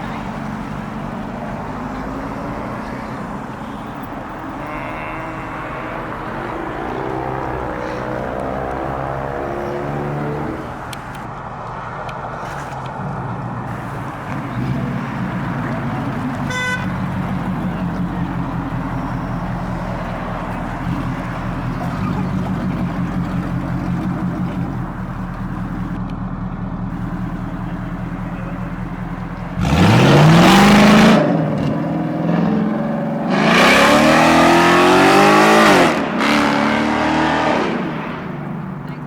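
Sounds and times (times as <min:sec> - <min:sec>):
car engine idling and revving: 0:00.0 - 0:39.0.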